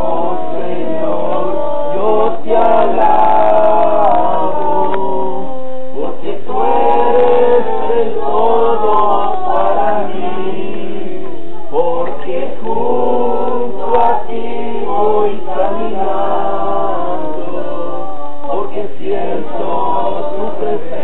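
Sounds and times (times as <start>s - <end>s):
group singing praise song: 0.0s - 21.0s.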